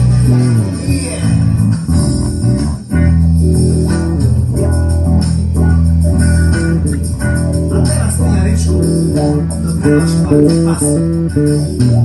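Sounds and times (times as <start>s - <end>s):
electric bass guitar blues line: 0.0s - 12.0s.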